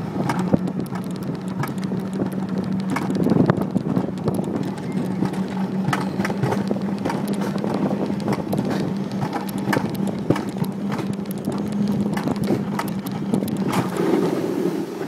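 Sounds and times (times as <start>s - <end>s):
coaster wheels rolling hum: 0.0s - 15.0s
sharp clacks and rattles: 0.1s - 14.4s.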